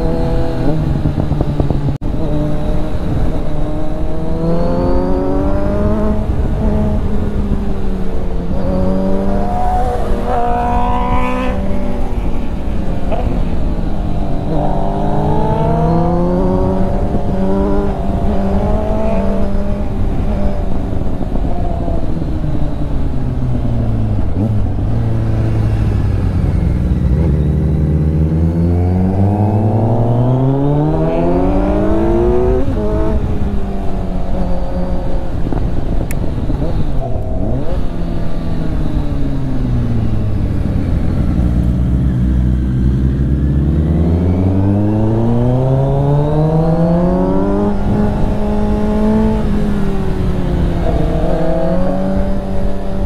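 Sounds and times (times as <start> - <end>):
motorcycle engine revving: 0.0 - 53.0
wind rushing over microphone: 0.0 - 53.0.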